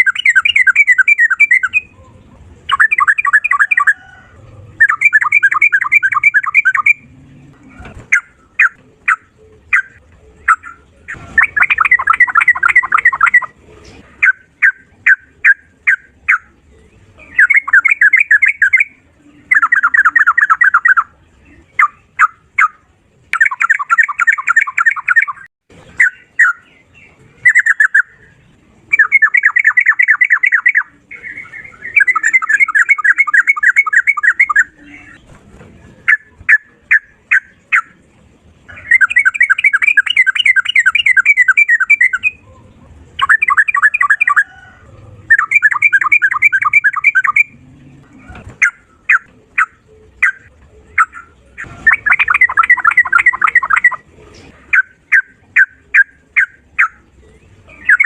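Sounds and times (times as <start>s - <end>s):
bird singing rapid rattling phrases: 0.0s - 58.0s.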